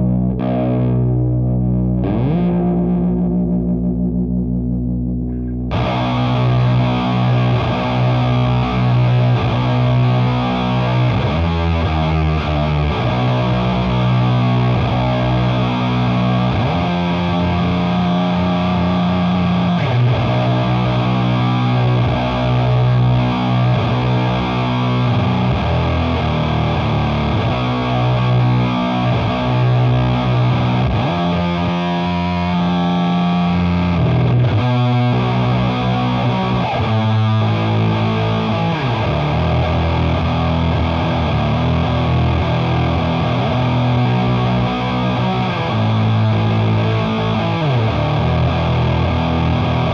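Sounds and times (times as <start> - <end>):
distorted electric guitar chords: 0.0 - 49.9
fast picked guitar chugging: 5.3 - 49.9.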